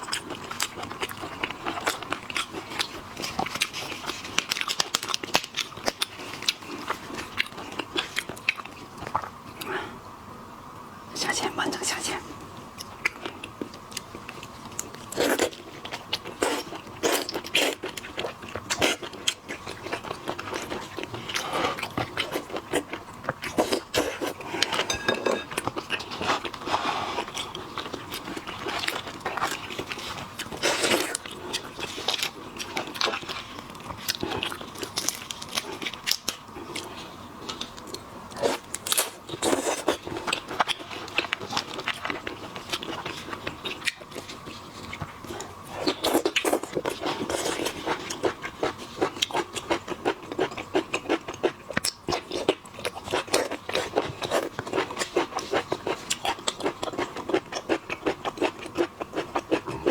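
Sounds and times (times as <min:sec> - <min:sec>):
crunching and chewing food: 0:00.0 - 0:09.8, 0:12.8 - 0:59.9.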